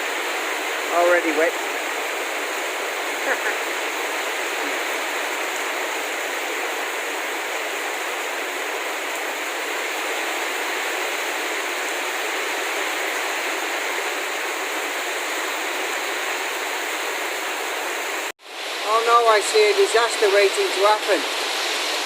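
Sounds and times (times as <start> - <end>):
heavy rain downpour: 0.0 - 22.0.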